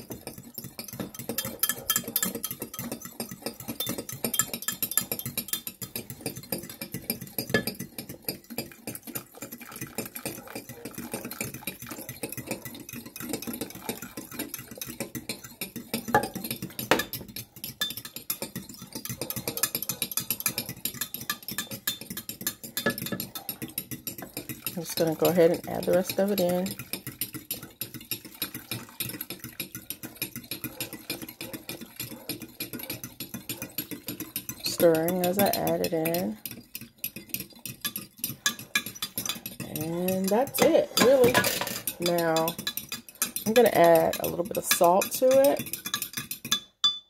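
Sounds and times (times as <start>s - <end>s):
fork whisking in glass cup: 0.0s - 47.0s.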